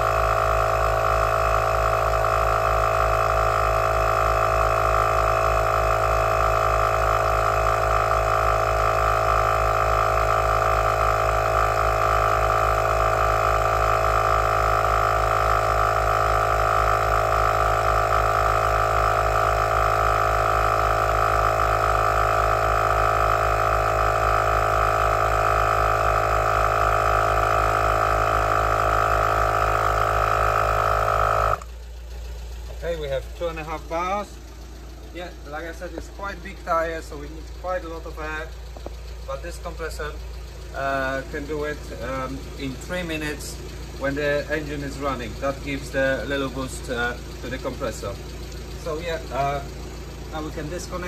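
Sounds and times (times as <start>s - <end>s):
compressor piston pulse: 0.0s - 51.0s
tyre compressor motor hum: 0.0s - 51.0s.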